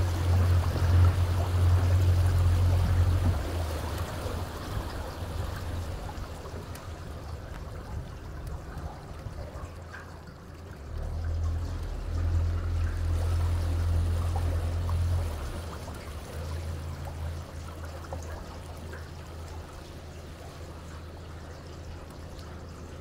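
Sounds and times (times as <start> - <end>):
boat motor humming: 0.0 - 23.0
water rushing along boat: 0.0 - 23.0.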